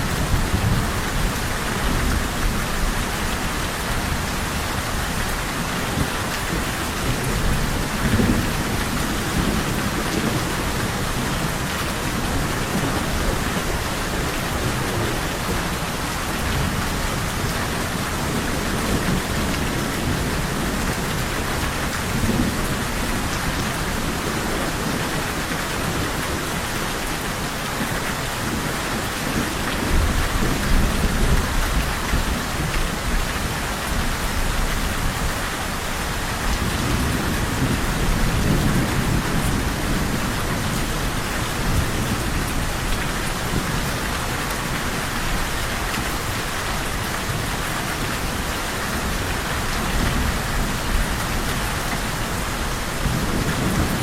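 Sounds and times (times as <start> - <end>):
rolling thunder: 0.0 - 26.6, 36.1 - 47.5, 48.4 - 54.0
heavy rain: 0.0 - 54.0.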